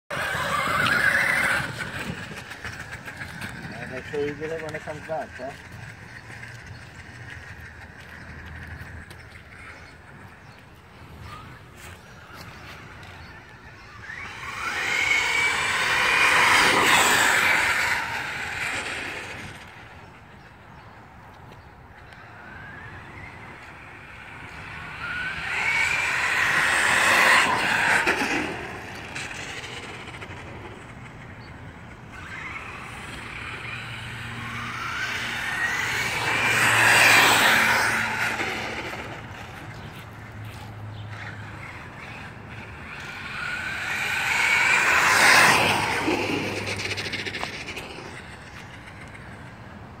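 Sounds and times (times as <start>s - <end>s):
rc truck electric motor whine: 0.1s - 20.6s, 22.0s - 50.0s
tyre noise on asphalt: 0.1s - 50.0s.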